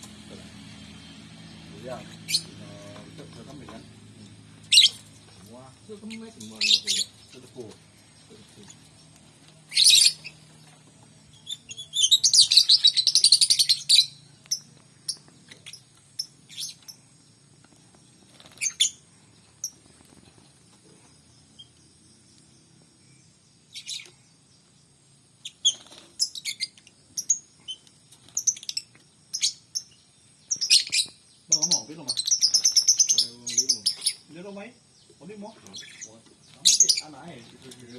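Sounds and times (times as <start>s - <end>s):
songbird chirping and trilling: 0.0s - 37.9s.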